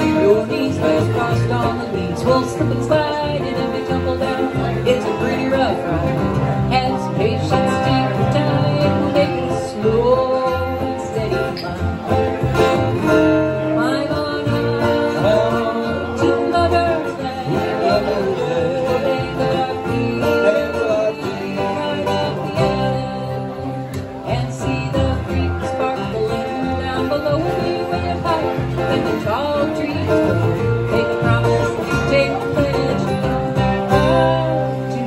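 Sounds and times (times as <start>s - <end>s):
woman singing: 0.0s - 12.2s, 13.1s - 35.0s
acoustic guitars strumming: 0.0s - 35.0s
plucked upright bass: 0.0s - 35.0s.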